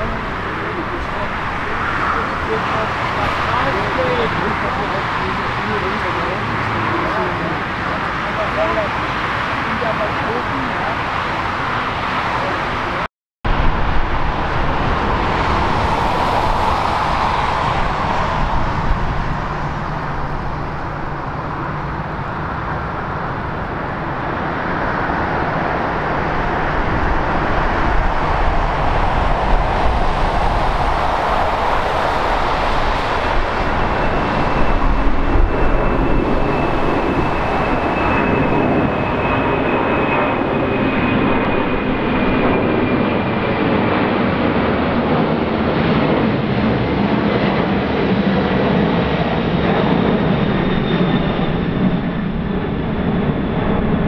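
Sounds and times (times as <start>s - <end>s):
jet climbing overhead with whine: 0.0s - 54.0s
jet engine rolling on runway: 0.0s - 54.0s.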